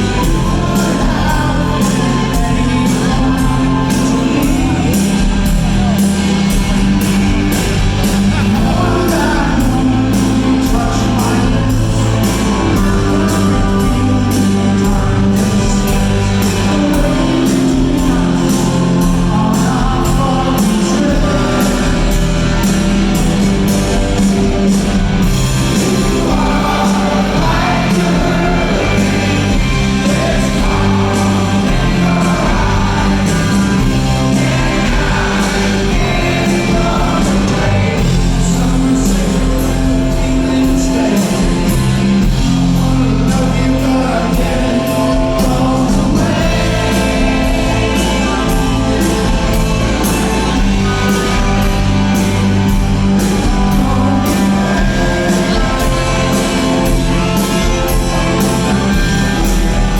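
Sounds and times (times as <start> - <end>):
live rock band: 0.0 - 59.9.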